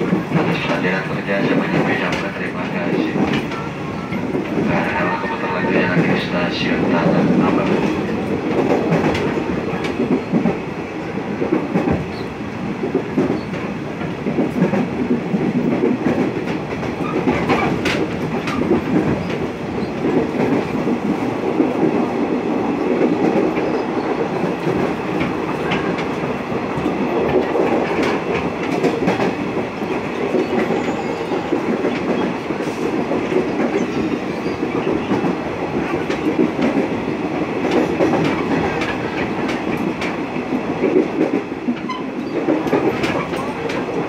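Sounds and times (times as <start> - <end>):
sharp track clicks: 0.0 - 10.6, 11.3 - 30.9, 34.6 - 44.0
train wheels rumbling on rails: 0.0 - 44.0.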